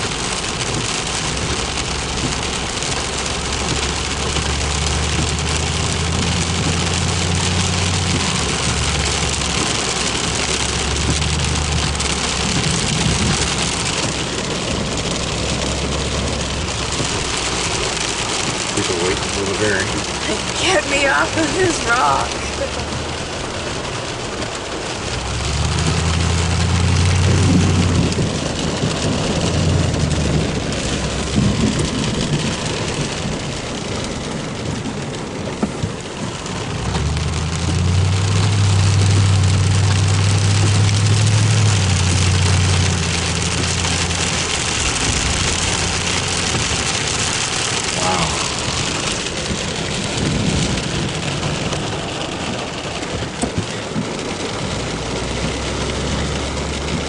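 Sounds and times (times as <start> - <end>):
heavy rain falling: 0.0 - 57.0
thunder rumbling: 0.0 - 57.0.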